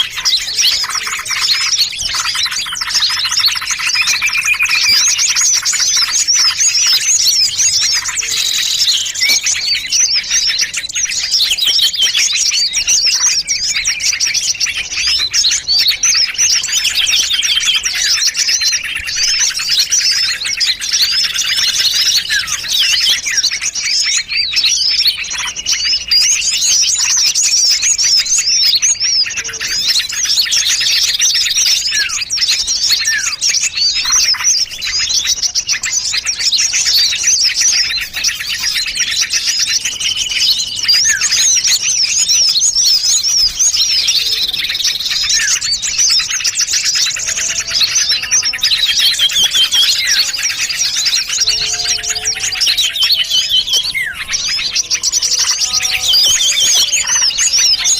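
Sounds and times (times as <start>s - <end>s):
small songbirds chirping and trilling: 0.0s - 57.9s.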